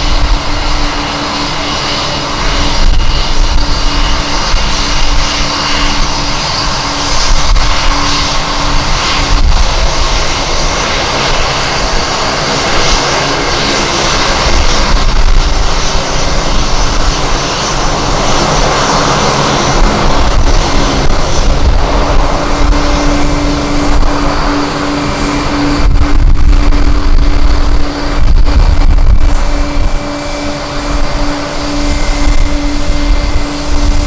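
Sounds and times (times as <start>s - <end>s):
jet engines running: 0.0s - 34.0s
wind buffeting microphone: 0.0s - 34.0s.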